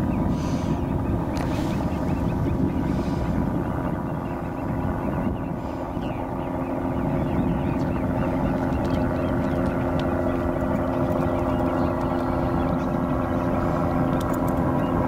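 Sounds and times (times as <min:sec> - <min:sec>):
low even hum: 0:00.0 - 0:15.0
outdoor rumble: 0:00.0 - 0:15.0.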